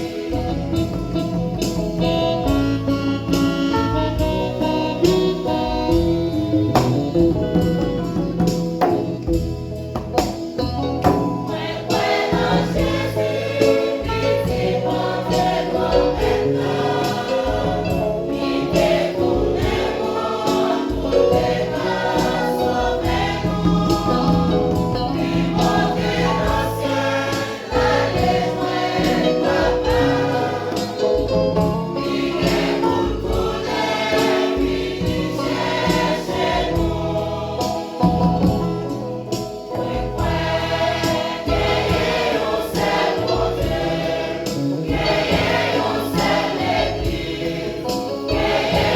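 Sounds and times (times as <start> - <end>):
choir singing a hymn: 0.0 - 7.7, 11.0 - 48.9
instrumental accompaniment: 0.0 - 48.9
steady percussion beat: 0.0 - 48.9.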